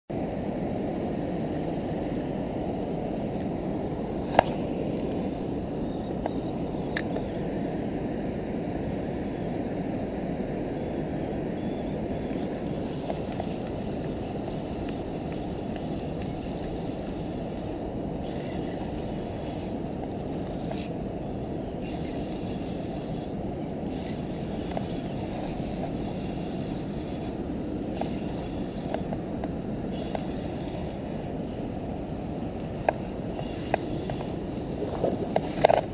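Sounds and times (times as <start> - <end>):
wind buffeting microphone: 0.2 - 35.9.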